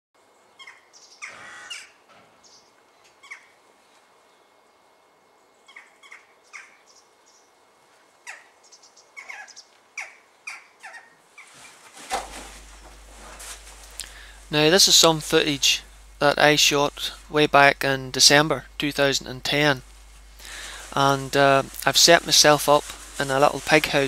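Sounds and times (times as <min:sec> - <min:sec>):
corvids calling: 0:00.6 - 0:03.6, 0:05.6 - 0:07.6, 0:08.2 - 0:24.0.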